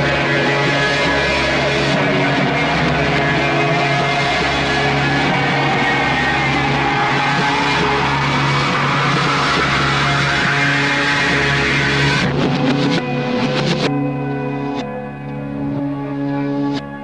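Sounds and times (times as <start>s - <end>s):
slowly rising tone: 0.0s - 13.9s
dense background music with bass: 0.0s - 17.0s.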